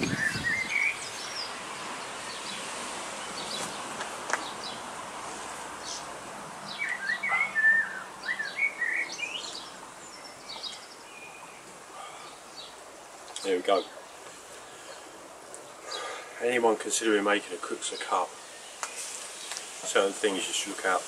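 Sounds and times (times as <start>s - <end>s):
songbird chirping and twittering: 0.0s - 4.9s, 5.8s - 20.5s
steady outdoor hiss: 0.0s - 21.0s.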